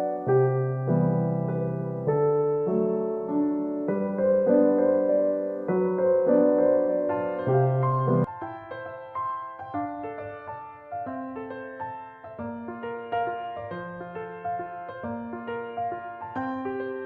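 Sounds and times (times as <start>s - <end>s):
soft piano piece: 0.0s - 17.0s.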